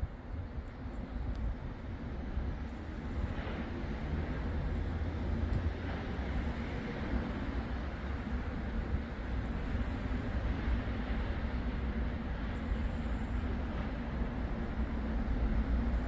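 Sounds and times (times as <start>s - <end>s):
road traffic rumble: 0.9s - 16.0s.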